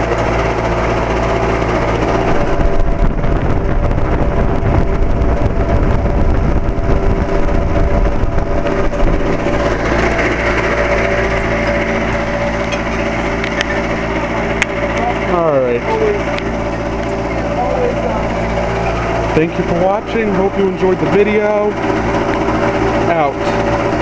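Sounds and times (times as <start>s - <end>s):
air conditioner humming: 0.0s - 24.0s
deep rumble: 0.0s - 24.0s.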